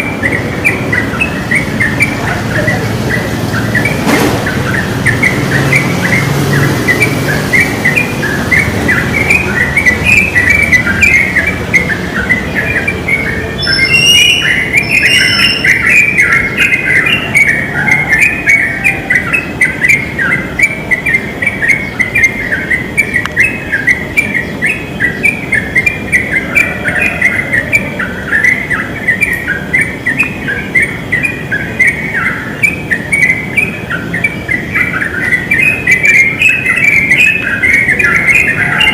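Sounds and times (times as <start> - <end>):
bulbuls singing: 0.0 - 38.9.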